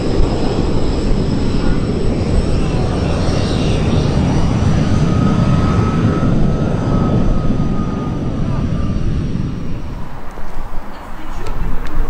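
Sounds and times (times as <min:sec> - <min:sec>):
jet engine running: 0:00.0 - 0:12.0.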